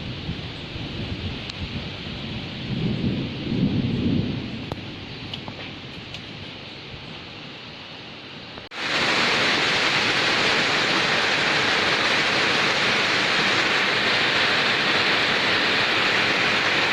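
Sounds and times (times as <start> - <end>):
heavy downpour: 0.0 - 16.9
rain hissing softly: 0.0 - 16.9.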